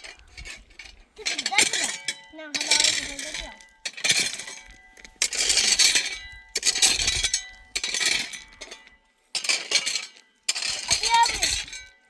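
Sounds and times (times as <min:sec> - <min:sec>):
clinking scraping strokes: 0:00.0 - 0:12.0.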